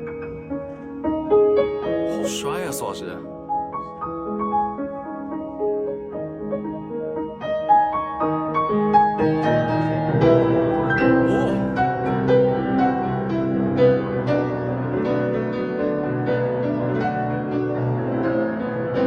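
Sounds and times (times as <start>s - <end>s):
low piano chords: 0.0s - 19.0s
piano melody: 0.0s - 19.0s.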